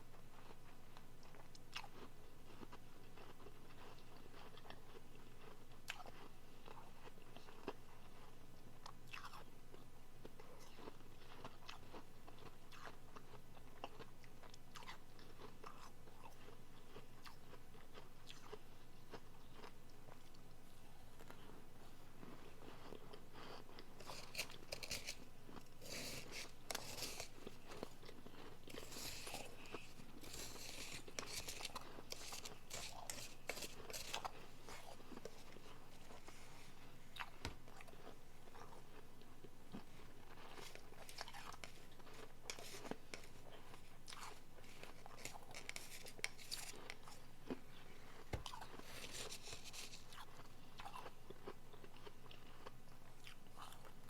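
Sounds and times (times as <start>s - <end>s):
chewing crunchy ice: 0.3s - 54.0s.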